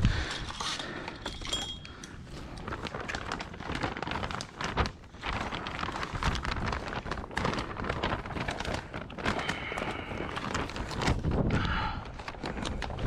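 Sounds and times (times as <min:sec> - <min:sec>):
plastic sheeting flapping and crackling: 0:01.8 - 0:13.0.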